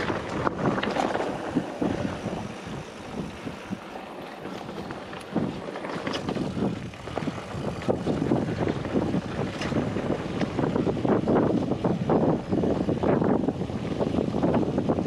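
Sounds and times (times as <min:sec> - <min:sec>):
bike frame rattling and knocking: 0:00.0 - 0:12.4
mountain bike rolling on dirt trail: 0:00.0 - 0:15.0
wind buffeting microphone: 0:00.0 - 0:15.0.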